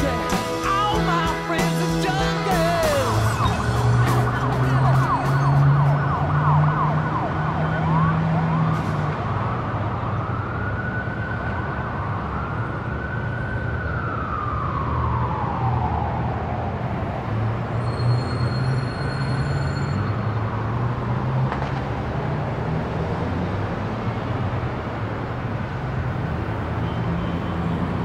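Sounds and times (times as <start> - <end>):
emergency vehicle siren: 0.0 - 28.0.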